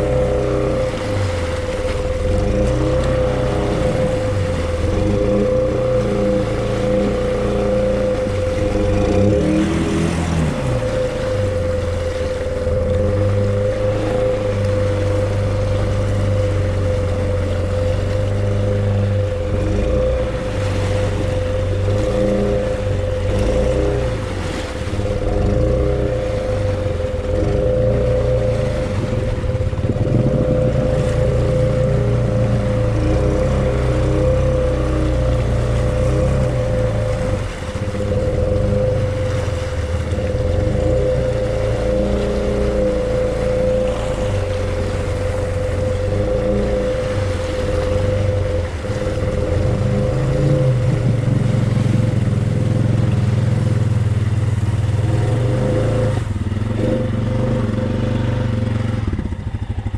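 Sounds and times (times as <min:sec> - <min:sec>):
quad bike engine revving: 0:00.0 - 0:17.3, 0:17.9 - 0:59.9
high whine: 0:00.0 - 0:59.9.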